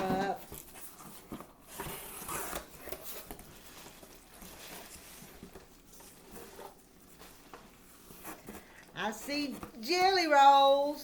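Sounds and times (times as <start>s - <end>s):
packaging rustling and scraping: 0.0s - 10.8s.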